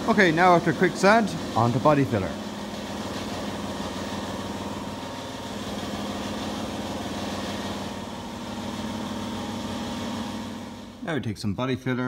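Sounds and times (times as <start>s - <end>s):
motor humming: 0.0s - 11.1s.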